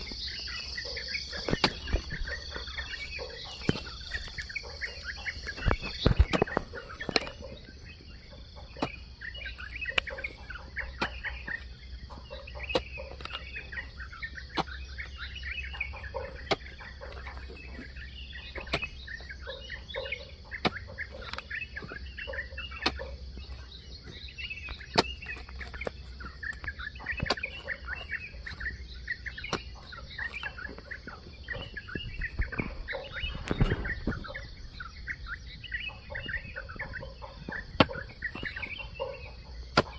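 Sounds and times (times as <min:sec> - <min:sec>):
hoe striking soil: 0:00.0 - 0:19.5, 0:20.3 - 0:34.3, 0:36.4 - 0:39.9
birds chirping and chattering: 0:00.0 - 0:39.9.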